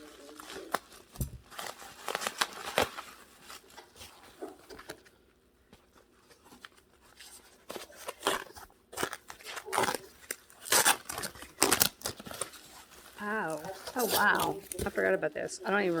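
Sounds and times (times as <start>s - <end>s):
packing paper rustling: 0.0s - 16.0s.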